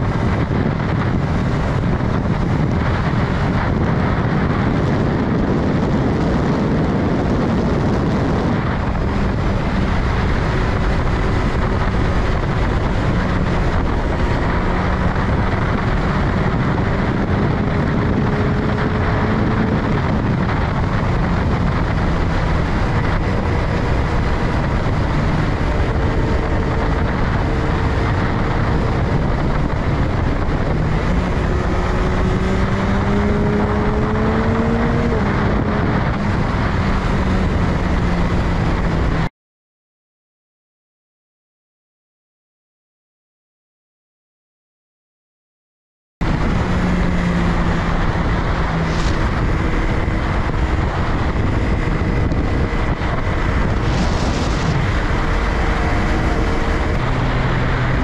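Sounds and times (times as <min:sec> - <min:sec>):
motorcycle engine running: 0:00.0 - 0:39.3, 0:46.2 - 0:58.0
wind rushing over microphone: 0:00.0 - 0:39.3, 0:46.2 - 0:58.0.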